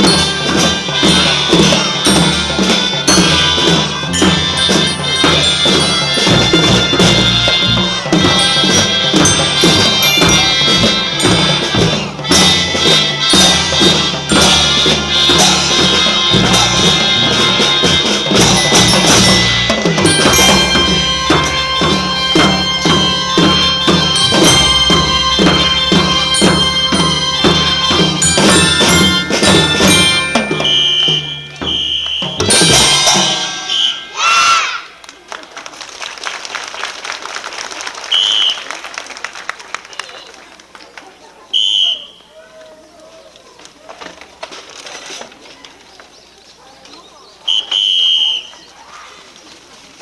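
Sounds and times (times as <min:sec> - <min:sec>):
children's marching band playing: 0:00.0 - 0:42.5.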